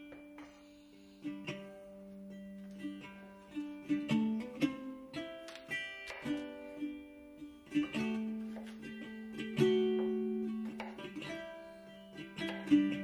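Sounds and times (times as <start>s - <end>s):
plucked acoustic guitar: 0.0s - 13.0s.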